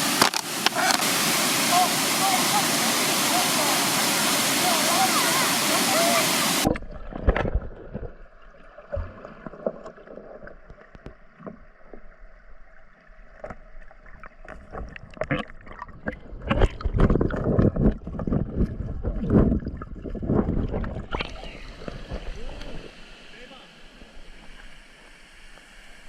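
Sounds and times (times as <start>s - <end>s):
water splashing and sloshing: 0.0s - 26.0s.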